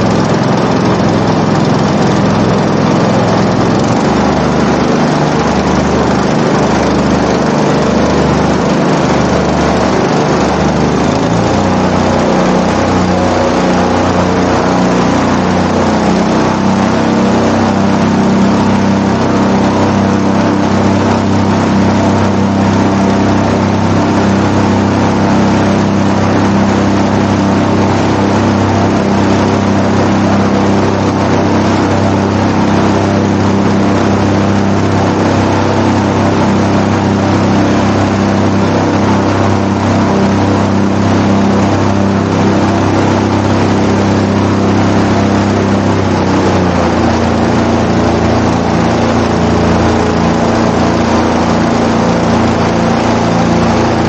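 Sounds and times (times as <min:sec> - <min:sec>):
airboat engine and propeller: 0:00.0 - 0:54.0.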